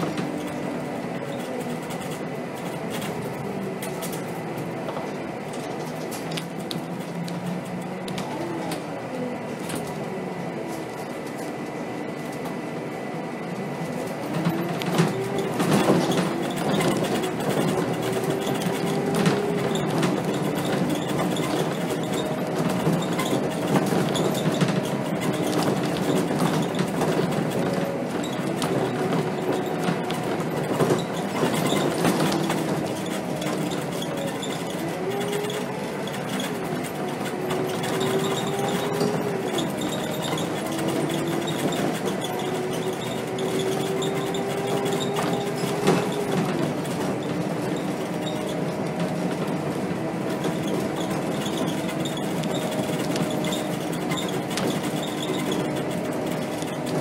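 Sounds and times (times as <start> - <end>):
bus diesel engine rumble and whine: 0.0 - 57.0.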